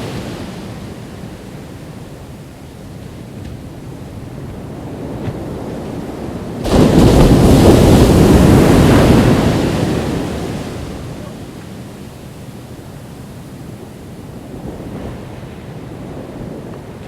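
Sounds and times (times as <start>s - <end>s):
ocean wave breaking on beach: 0.0s - 17.0s.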